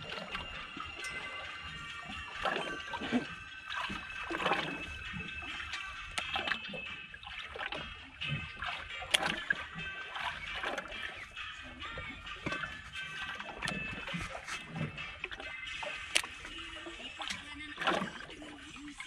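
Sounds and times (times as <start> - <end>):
water slapping against boat hull: 0.0 - 19.0.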